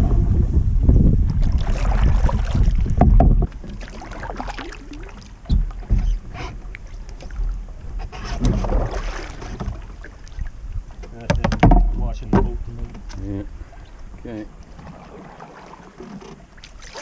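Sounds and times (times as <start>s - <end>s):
wind buffeting microphone: 0.0s - 15.4s
paddle knocking against hull: 1.3s - 17.0s
paddle splashing in water: 1.3s - 17.0s.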